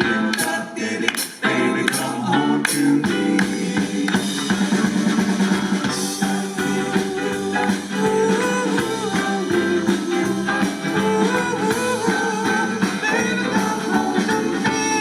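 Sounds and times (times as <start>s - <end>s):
drum and bass beat: 0.3s - 15.0s
electric guitar lead melody: 1.3s - 15.0s.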